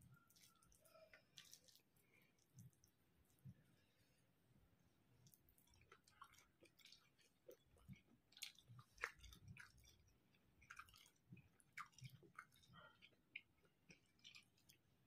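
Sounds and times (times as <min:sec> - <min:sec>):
person chewing food: 0:00.0 - 0:03.7, 0:05.1 - 0:15.0.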